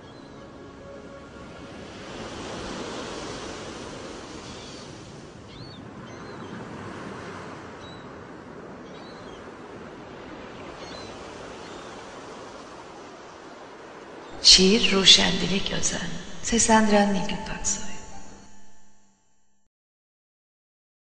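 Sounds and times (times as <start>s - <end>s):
sea surf rushing: 0.0s - 18.9s.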